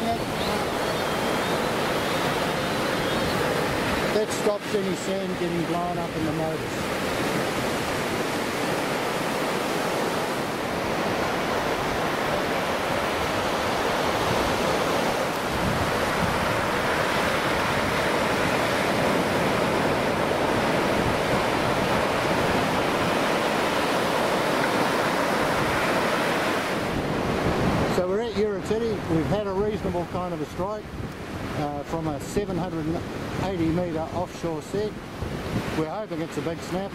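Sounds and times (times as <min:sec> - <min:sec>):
surf breaking on sandy beach: 0:00.0 - 0:36.9.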